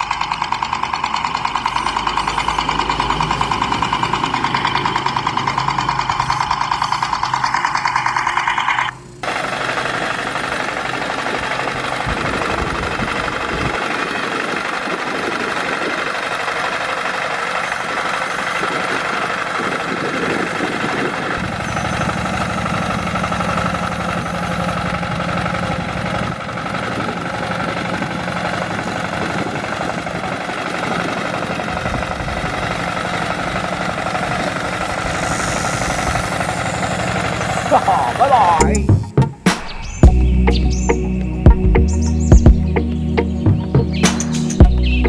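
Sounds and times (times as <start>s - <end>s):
small motor droning: 0.0s - 45.0s.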